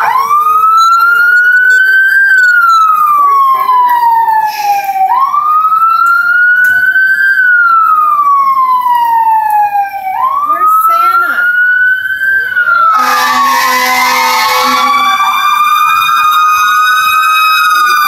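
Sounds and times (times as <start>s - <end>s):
electronic siren wailing: 0.0s - 18.0s.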